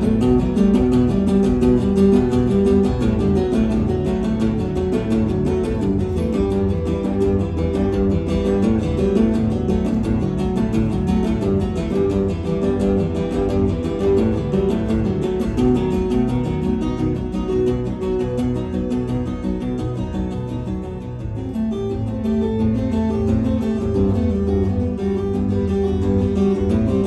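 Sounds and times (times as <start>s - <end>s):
fingerstyle acoustic guitar: 0.0s - 27.0s.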